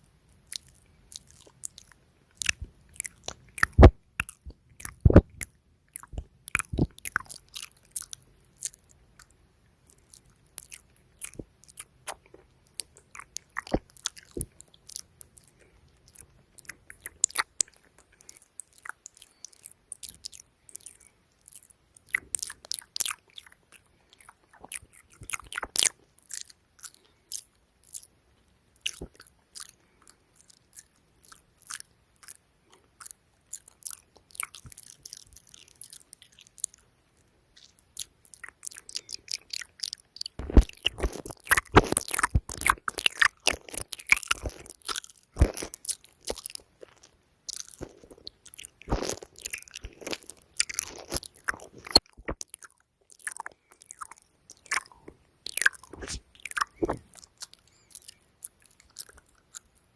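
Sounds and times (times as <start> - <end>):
lip and tongue clicks: 0.4 - 28.1, 28.8 - 59.9.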